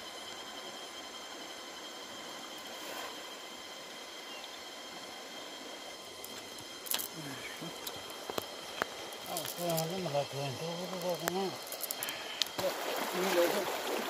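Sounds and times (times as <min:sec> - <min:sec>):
faint high whine: 0:00.0 - 0:14.0
river running over stones: 0:00.2 - 0:14.0.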